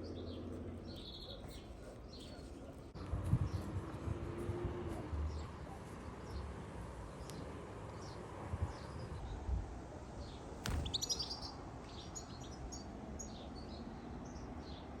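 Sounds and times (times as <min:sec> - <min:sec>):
small birds chirping: 0:00.0 - 0:09.5, 0:10.2 - 0:15.0.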